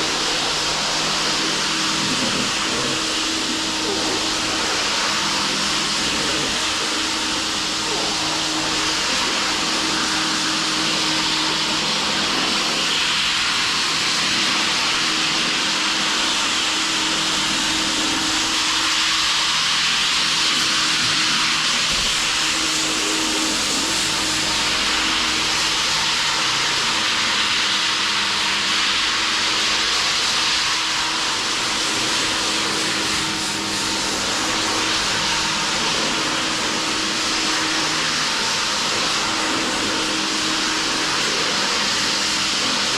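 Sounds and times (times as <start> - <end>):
floor sanding machine whirring: 0.0 - 42.9.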